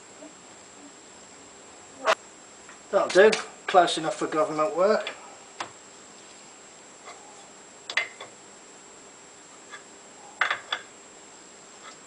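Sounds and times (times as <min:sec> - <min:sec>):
quiet steady background hum: 0:00.0 - 0:12.0.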